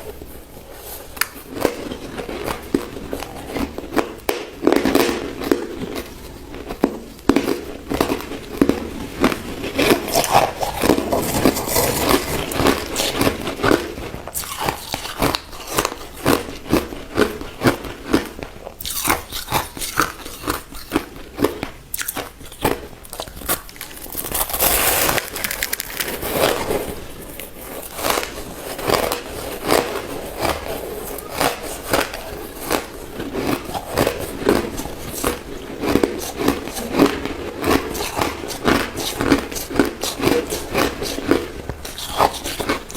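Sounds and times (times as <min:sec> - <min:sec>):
chewing crushed ice: 0:00.9 - 0:42.9.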